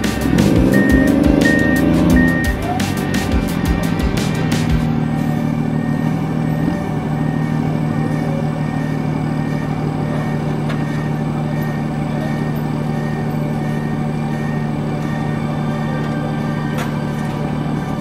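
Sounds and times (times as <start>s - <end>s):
large diesel engine running: 0.0s - 18.0s.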